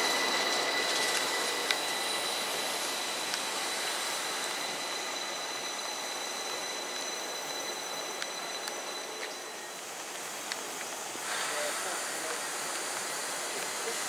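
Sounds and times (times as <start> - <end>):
electric train whine: 0.0 - 14.0
train running noise: 0.0 - 14.0.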